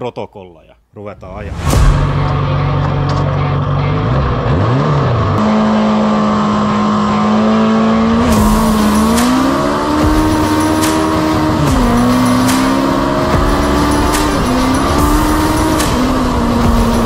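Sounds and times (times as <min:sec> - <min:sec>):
race car engine revving: 0:01.7 - 0:17.0.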